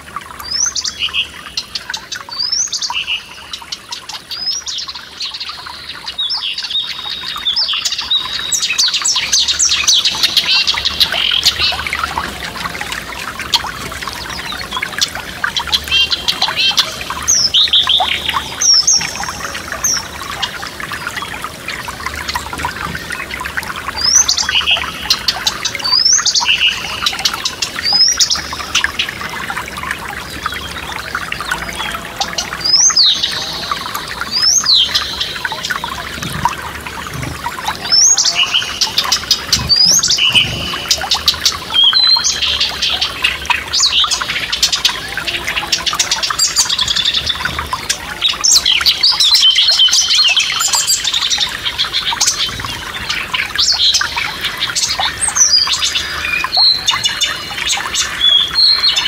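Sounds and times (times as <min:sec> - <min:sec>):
songbirds chirping: 0:00.0 - 0:59.0
stream rushing: 0:08.4 - 0:59.0.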